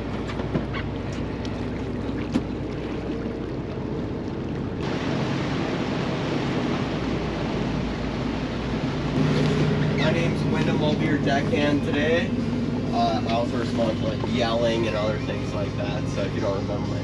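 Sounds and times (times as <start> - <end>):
boat engine running: 0.0 - 17.0
water washing along hull: 0.0 - 17.0.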